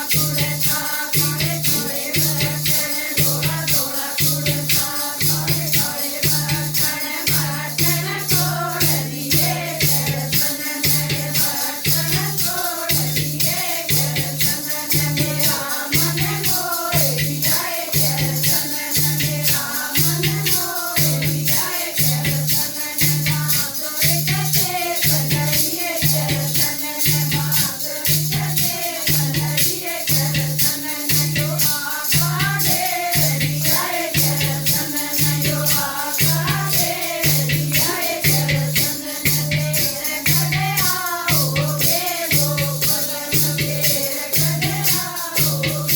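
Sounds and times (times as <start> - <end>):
shaker rattling: 0.0 - 45.9.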